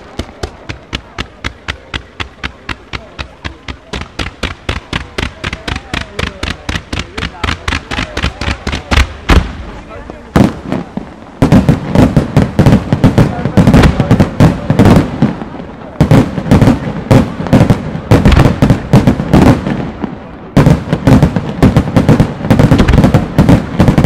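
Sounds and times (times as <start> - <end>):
fireworks launching and bursting: 0.0 - 24.0.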